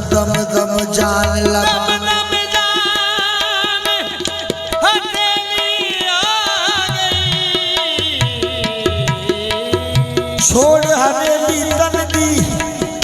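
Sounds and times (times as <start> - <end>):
harmonium melody: 0.0 - 13.0
tabla beat: 0.0 - 13.0.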